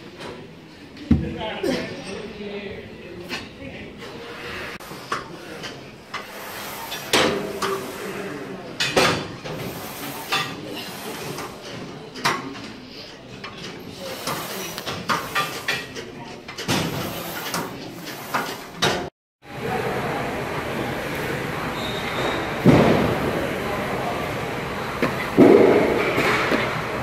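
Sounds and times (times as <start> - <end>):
faint voices: 0.0 - 27.0.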